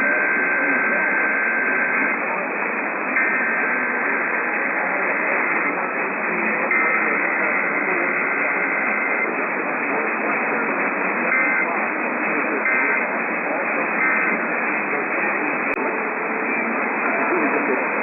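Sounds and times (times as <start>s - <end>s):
high steady data tones: 0.0s - 18.0s
radio static hiss: 0.0s - 18.0s.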